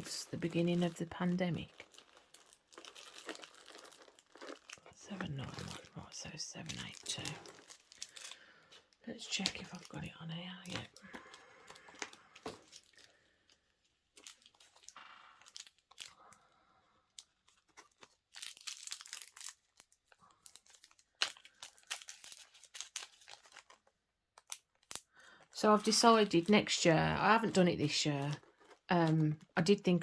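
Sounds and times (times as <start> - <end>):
plastic bags crinkling: 0.0 - 16.3, 17.2 - 30.0.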